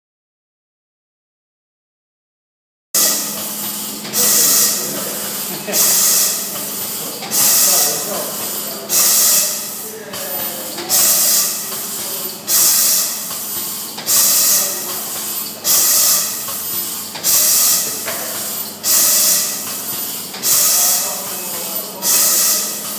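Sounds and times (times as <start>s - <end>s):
machine hum: 3.0s - 22.9s
packing machine sharp hiss: 3.0s - 22.9s.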